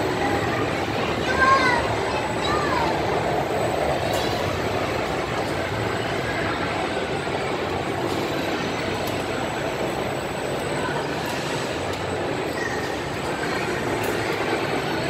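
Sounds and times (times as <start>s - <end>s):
indoor amusement hall din: 0.0s - 15.0s
ride mechanical rumble and hiss: 0.0s - 15.0s.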